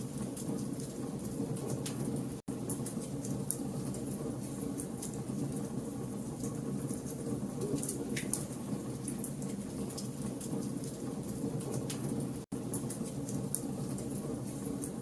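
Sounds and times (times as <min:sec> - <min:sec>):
low rumble of flames: 0:00.0 - 0:15.0.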